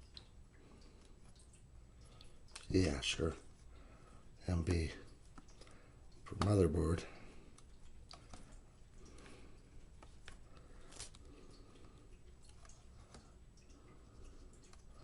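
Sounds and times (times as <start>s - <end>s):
faint clicks of small parts: 0.0s - 15.0s.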